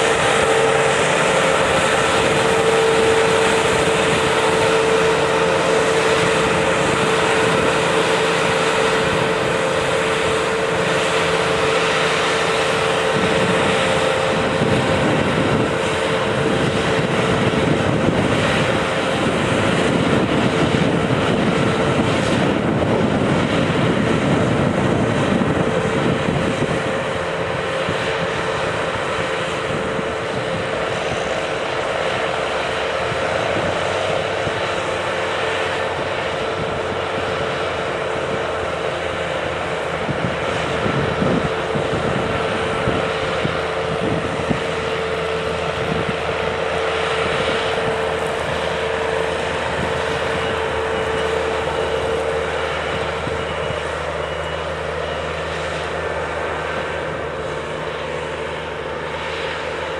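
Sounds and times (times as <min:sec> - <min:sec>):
combine harvester drone: 0:00.0 - 0:59.9
machinery whine: 0:00.0 - 0:59.9.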